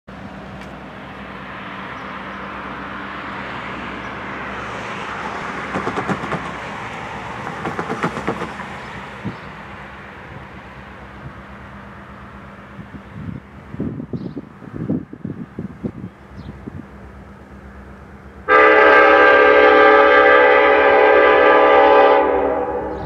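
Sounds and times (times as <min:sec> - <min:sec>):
diesel freight train rumble: 0:00.1 - 0:23.0.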